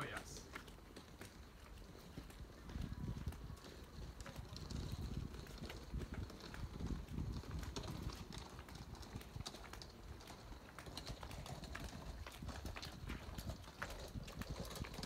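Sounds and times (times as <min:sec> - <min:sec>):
footsteps on stone paving: 0:00.0 - 0:15.0
low uneven rumble: 0:00.0 - 0:15.0.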